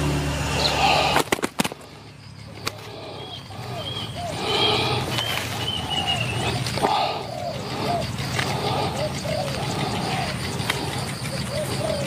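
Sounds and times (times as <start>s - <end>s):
doves cooing: 0.0s - 12.0s
small birds chirping: 0.0s - 12.0s.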